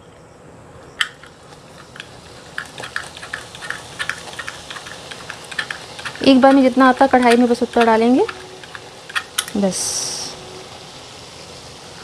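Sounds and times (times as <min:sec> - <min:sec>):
dough sizzling in hot oil: 0:01.1 - 0:12.0.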